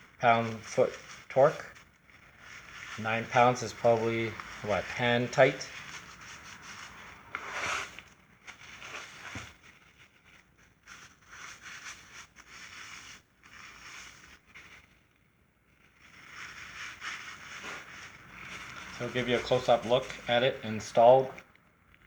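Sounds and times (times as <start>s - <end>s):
scraping and rustling handling noise: 0.0s - 22.0s.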